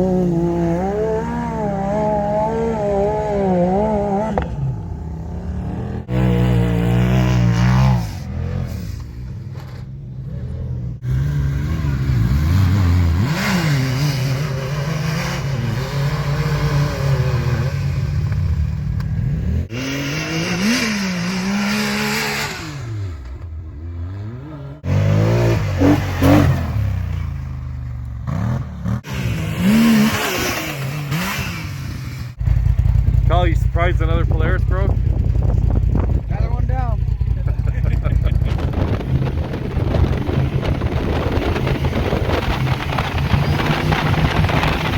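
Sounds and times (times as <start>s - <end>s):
utility vehicle engines revving: 0.0s - 44.9s.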